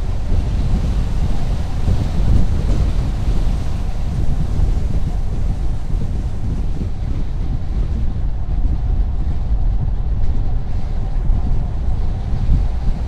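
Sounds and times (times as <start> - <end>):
car tyre and wind noise: 0.0 - 13.0.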